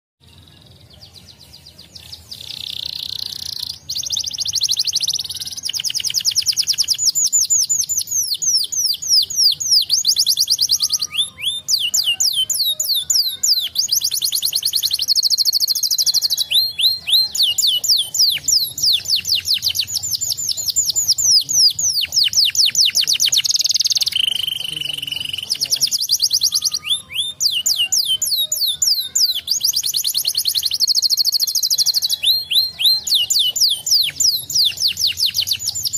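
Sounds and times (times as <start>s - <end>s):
canary singing trills: 0.2s - 35.9s.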